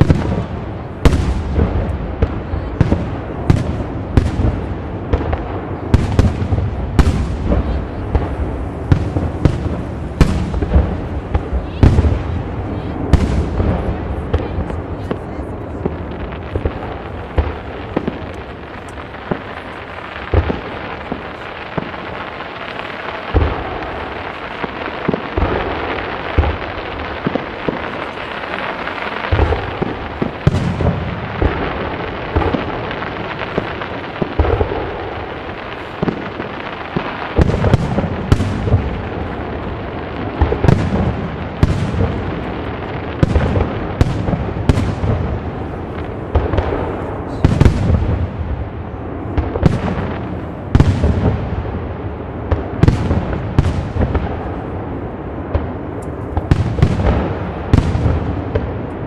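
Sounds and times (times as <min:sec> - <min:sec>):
firework shells booming: 0:00.0 - 0:59.0
fireworks crackling: 0:00.0 - 0:59.0.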